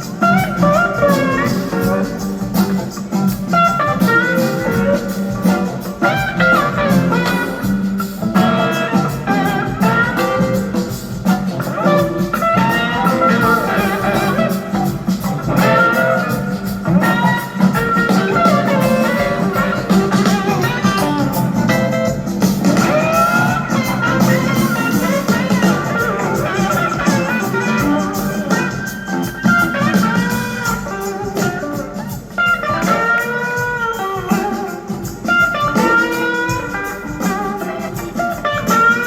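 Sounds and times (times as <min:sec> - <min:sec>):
blues-rock band playing: 0:00.0 - 0:39.0
electric guitar solo: 0:00.0 - 0:39.0.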